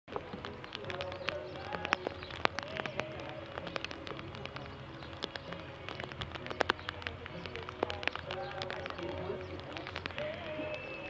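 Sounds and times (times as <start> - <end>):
raindrops tapping: 0.1 - 11.0.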